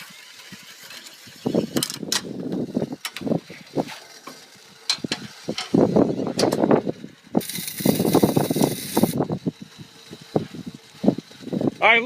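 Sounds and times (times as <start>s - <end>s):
rope and pulley rattling: 0.0s - 12.0s.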